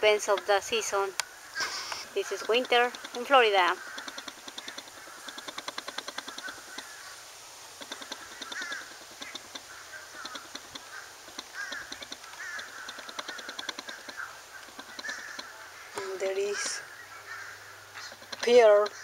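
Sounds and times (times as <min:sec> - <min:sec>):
fast ticking chatter: 0:00.0 - 0:07.0, 0:07.7 - 0:16.9, 0:17.9 - 0:19.0
crows calling: 0:00.0 - 0:19.0.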